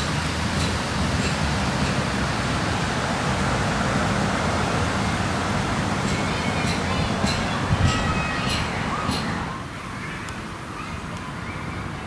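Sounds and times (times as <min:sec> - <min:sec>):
outdoor rushing noise: 0:00.0 - 0:10.0.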